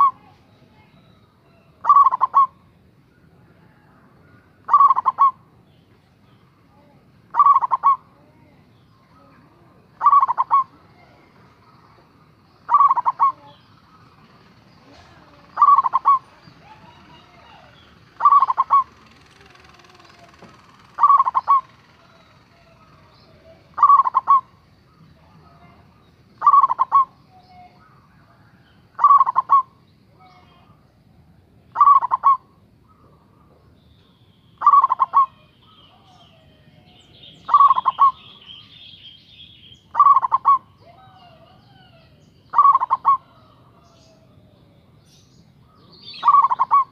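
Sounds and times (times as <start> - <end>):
dove cooing: 0.0 - 0.3, 0.9 - 2.6, 3.4 - 5.5, 6.7 - 8.6, 9.2 - 30.9, 31.7 - 33.6, 34.6 - 38.7, 39.9 - 45.0, 45.6 - 46.9.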